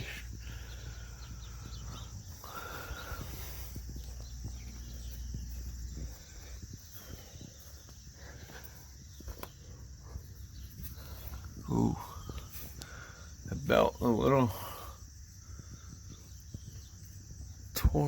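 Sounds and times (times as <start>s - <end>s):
crickets and insects chirping: 0.0s - 18.0s.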